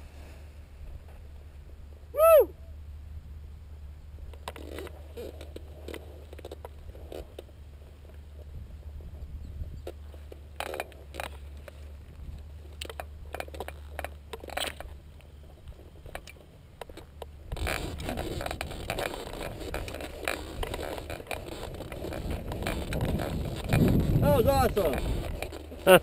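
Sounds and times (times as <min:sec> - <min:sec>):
steady low rumble: 0:00.0 - 0:26.0
harness gear scraping and rustling: 0:04.3 - 0:26.0.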